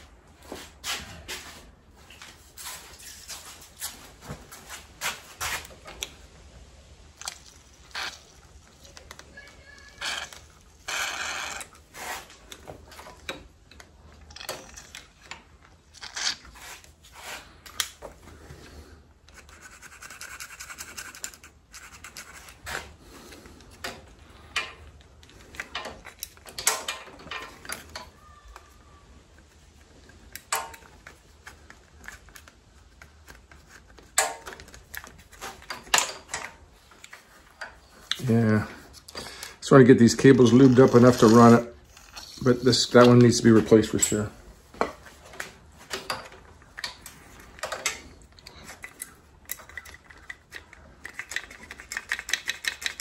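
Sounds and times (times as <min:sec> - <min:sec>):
hands handling metal parts: 0:07.1 - 0:53.0.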